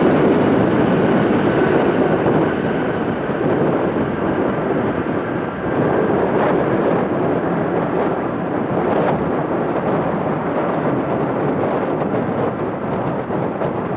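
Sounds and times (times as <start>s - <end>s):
jet engines at takeoff: 0.0s - 13.9s.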